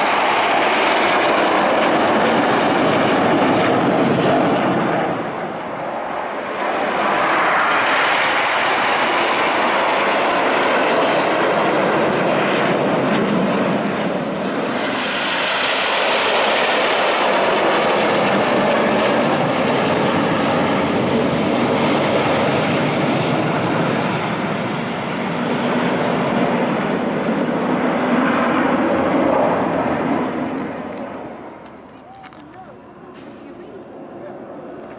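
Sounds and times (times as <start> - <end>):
jet engines rushing: 0.0 - 34.9.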